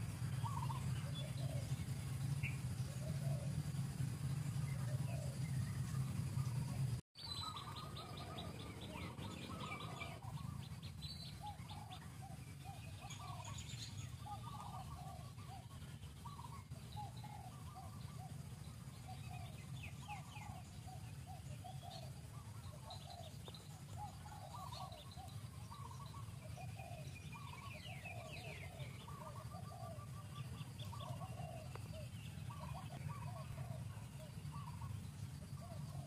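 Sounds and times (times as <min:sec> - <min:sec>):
birdsong: 0:00.0 - 0:36.0
steady low rumble: 0:00.0 - 0:36.0.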